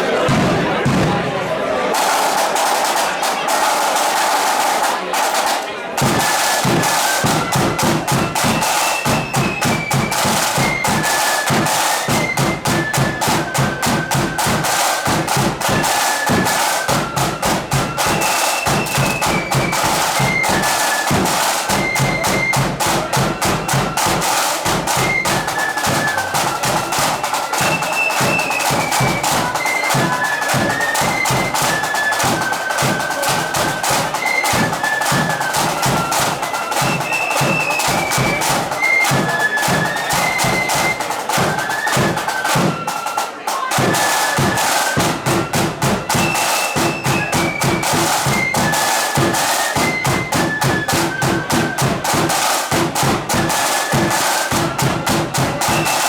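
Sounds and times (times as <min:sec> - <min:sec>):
rapid snare drumming: 0:00.1 - 0:56.0
flutes playing melody: 0:02.0 - 0:56.0.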